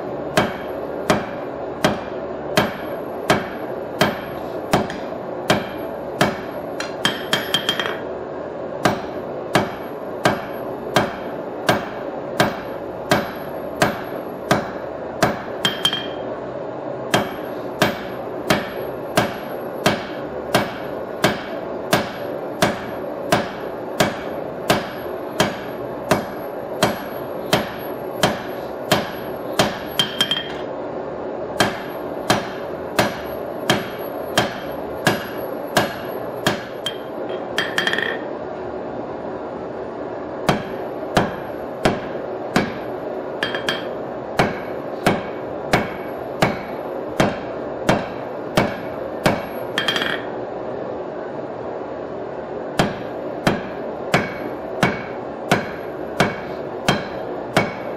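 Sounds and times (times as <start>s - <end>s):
hammer forging blows on anvil: 0.0s - 16.4s, 17.1s - 30.7s, 31.6s - 38.4s, 40.4s - 50.4s, 52.6s - 57.9s.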